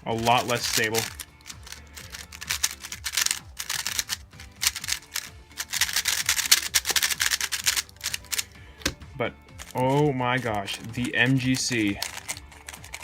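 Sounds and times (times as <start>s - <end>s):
puzzle cube clicking: 0.1s - 9.0s, 9.6s - 13.0s.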